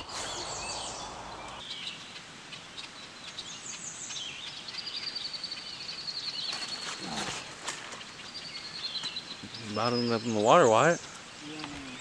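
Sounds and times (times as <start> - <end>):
wild birds singing: 0.0 - 12.0.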